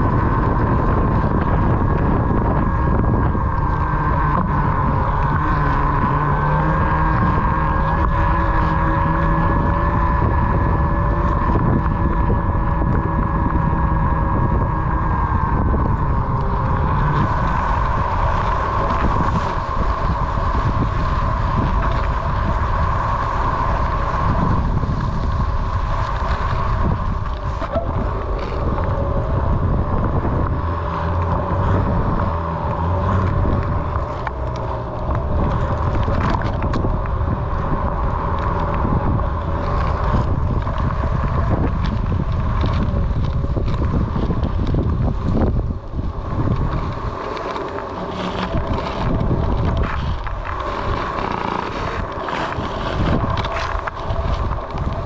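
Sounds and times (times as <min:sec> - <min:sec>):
electric motor whining: 0:00.0 - 0:55.0
wind rumble on microphone: 0:00.0 - 0:55.0.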